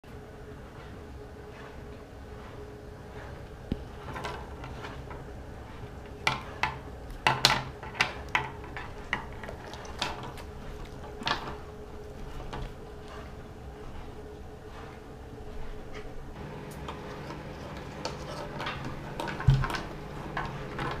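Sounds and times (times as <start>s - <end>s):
animals scuffling on wooden table: 0.7s - 21.0s.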